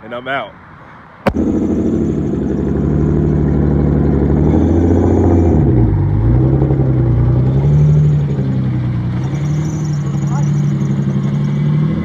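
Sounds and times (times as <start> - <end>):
car engine idling loud: 1.3 - 12.0.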